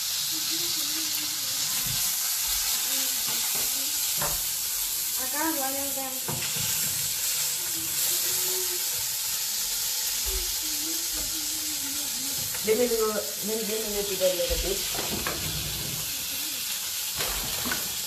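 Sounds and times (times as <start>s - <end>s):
burger patty sizzling in a pan: 0.0s - 18.0s.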